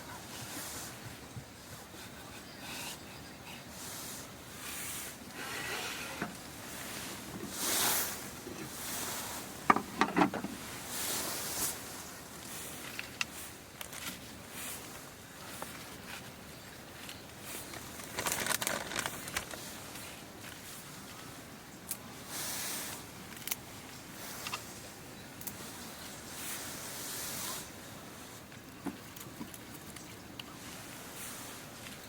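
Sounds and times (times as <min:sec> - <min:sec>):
soft rustling and swishing: 0:00.0 - 0:03.0, 0:03.6 - 0:21.5, 0:23.7 - 0:32.0.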